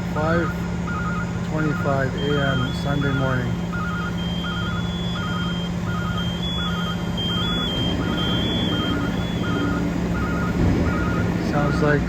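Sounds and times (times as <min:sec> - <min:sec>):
heavy truck engines running: 0:00.0 - 0:12.0
high alarm tone: 0:00.0 - 0:12.0
electronic warning beeps: 0:00.1 - 0:12.0.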